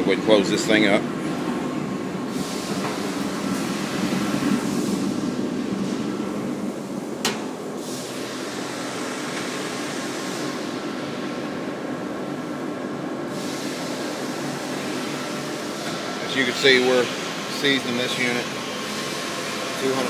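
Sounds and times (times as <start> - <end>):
gas burner and blower humming: 0.0 - 20.0.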